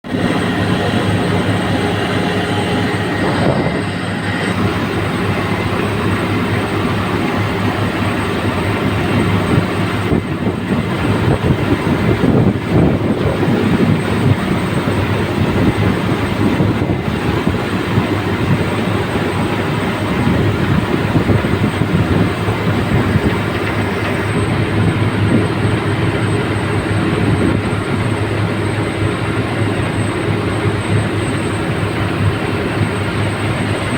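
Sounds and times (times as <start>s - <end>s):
heavy machine drone: 0.0s - 33.9s
machinery rattle: 0.1s - 33.9s.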